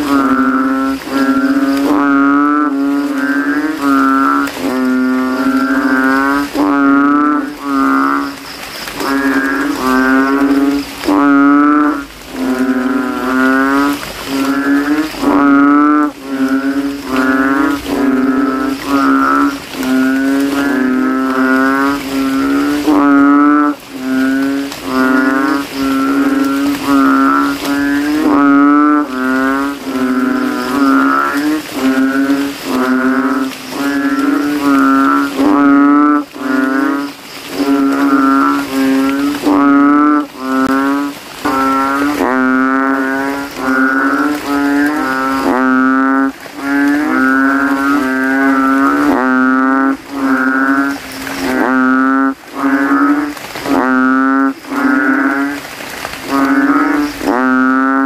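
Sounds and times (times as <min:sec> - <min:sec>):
frog calling deeply: 0:00.0 - 0:58.0.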